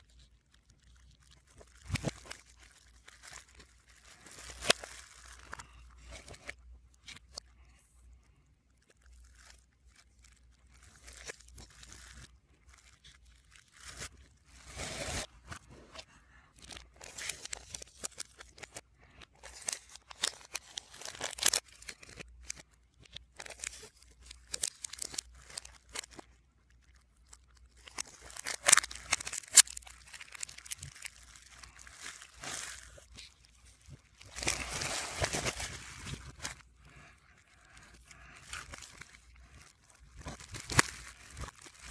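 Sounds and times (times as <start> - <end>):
reversed packaging crinkling: 0.0 - 7.5, 8.8 - 41.9.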